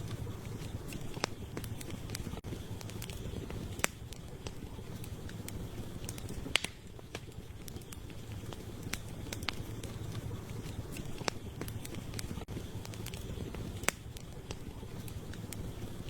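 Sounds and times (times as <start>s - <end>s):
firewood popping: 0.0s - 16.0s
low rumble of flames: 0.0s - 16.0s.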